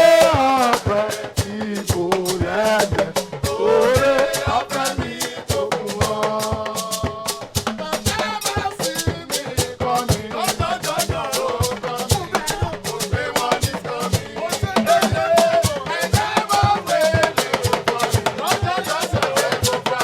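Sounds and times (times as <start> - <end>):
hymn singing: 0.0 - 20.0
rattles or shakers: 0.1 - 19.8.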